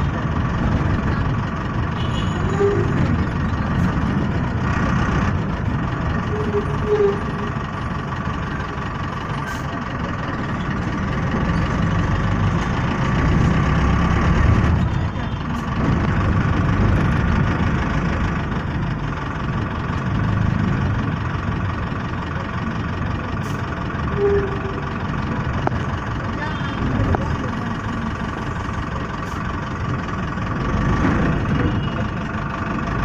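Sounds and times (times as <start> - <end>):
road and traffic noise: 0.0 - 33.0
vehicle engine running: 0.0 - 33.0.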